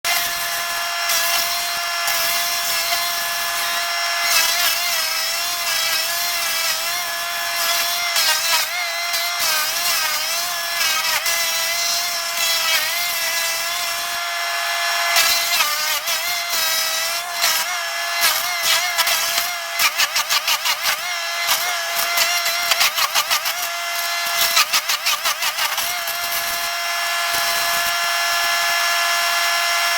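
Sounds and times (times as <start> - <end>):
chainsaw cutting: 0.1 - 29.9.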